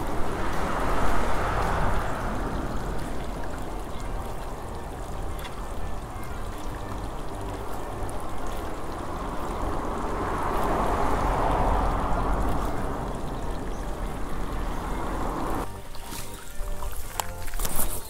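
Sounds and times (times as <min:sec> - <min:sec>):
wind blowing across microphone: 0:00.0 - 0:15.7.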